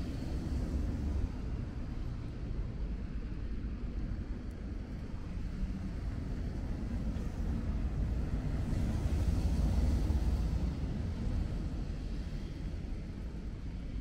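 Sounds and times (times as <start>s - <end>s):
low rumble of distant traffic: 0.0s - 14.0s.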